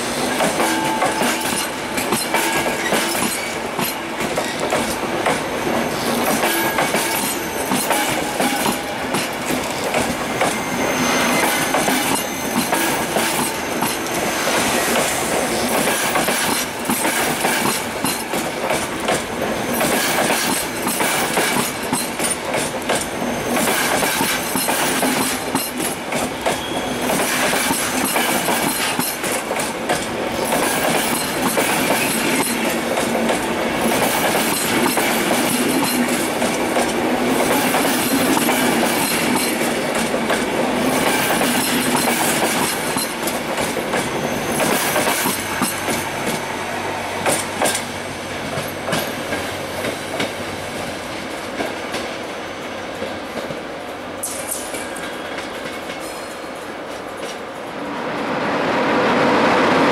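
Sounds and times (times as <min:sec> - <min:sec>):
train wheels rushing on rails: 0:00.0 - 0:59.9
clickety-clack over rail joints: 0:00.3 - 0:10.6, 0:11.3 - 0:46.5, 0:47.2 - 0:52.3, 0:52.9 - 0:57.8.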